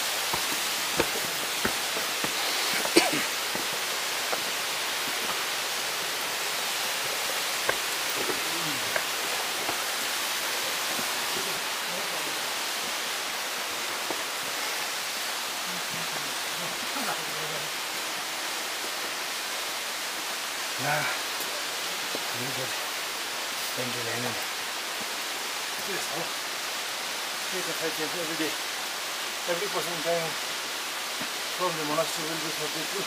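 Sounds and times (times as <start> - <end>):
falling water rushing: 0.0 - 33.0.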